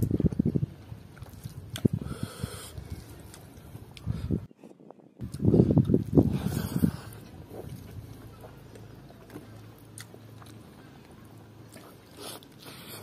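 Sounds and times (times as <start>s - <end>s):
person chewing food: 1.1s - 4.1s, 5.2s - 13.0s.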